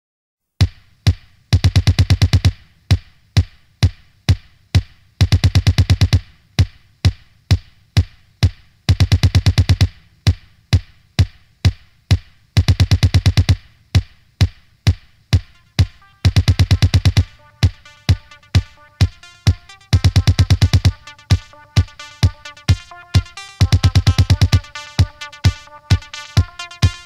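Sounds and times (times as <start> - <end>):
electronic music with drum-machine beat: 0.6 - 27.0.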